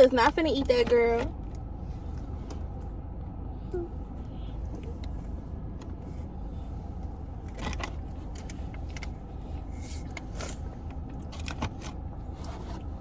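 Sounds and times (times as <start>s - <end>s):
idling car hum: 0.0s - 13.0s.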